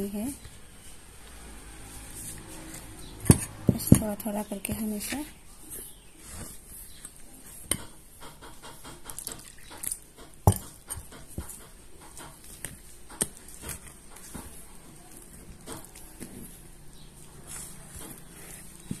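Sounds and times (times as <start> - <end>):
spoon scraping and squelching dough: 0.0 - 19.0.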